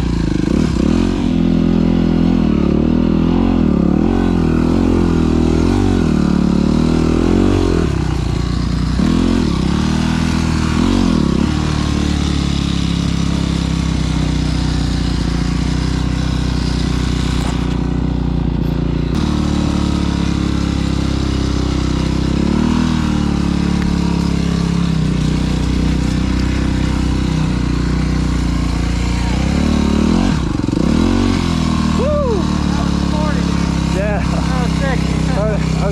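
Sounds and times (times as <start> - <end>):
dirt bike engine revving: 0.0 - 35.9.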